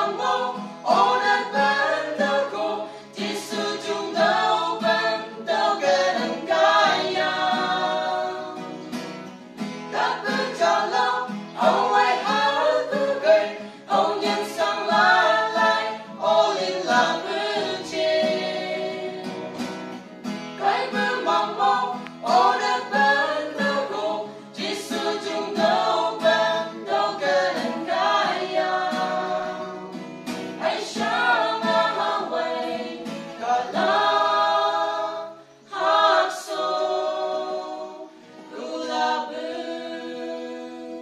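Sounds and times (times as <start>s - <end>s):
group singing a hymn in harmony: 0.0s - 41.0s.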